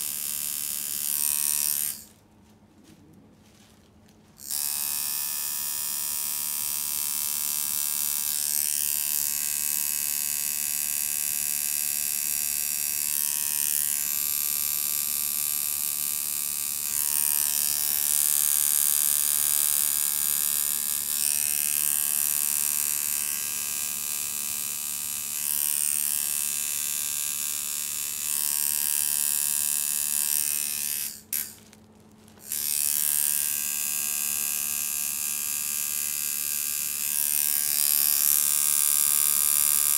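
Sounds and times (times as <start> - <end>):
tattoo machine buzzing: 0.0 - 2.1, 4.4 - 31.6, 32.4 - 39.9.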